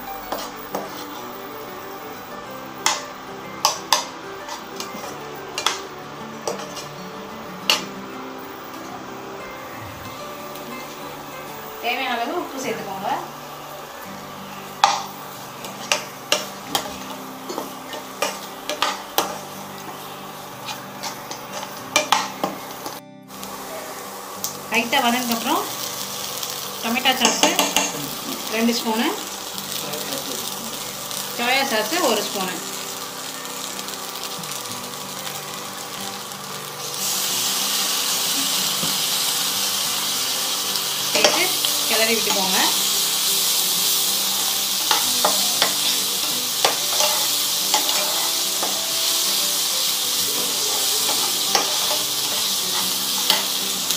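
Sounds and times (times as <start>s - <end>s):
cooktop hum: 0.0s - 53.9s
spatula stirring onions in a pan: 0.2s - 1.3s, 2.8s - 7.0s, 14.4s - 53.9s.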